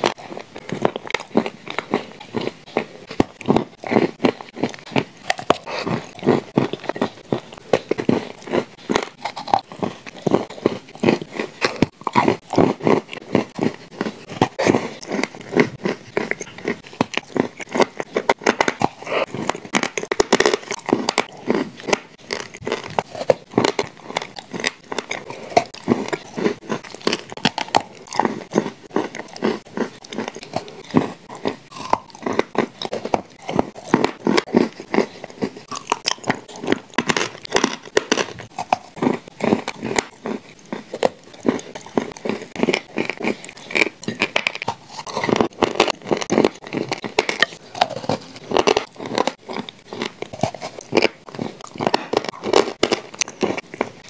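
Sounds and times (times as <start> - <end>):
person chewing crunchy cookies: 0.0 - 54.0.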